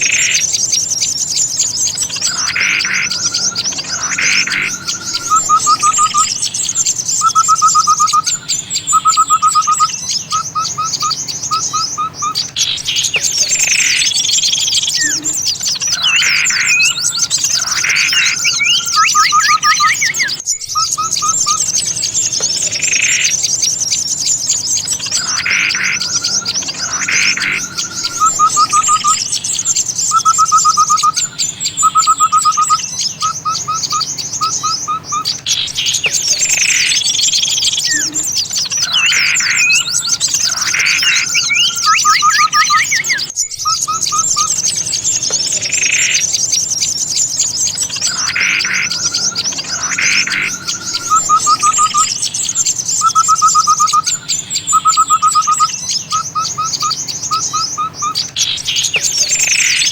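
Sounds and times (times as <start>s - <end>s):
descending bird calls: 0.0s - 59.9s
rapid bird trills: 0.0s - 59.9s
songbirds chattering: 0.0s - 59.9s.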